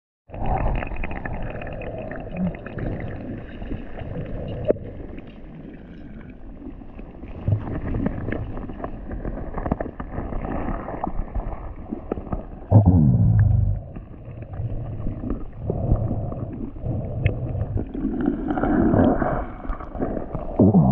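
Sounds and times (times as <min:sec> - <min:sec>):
underwater water wash: 0:00.3 - 0:20.9.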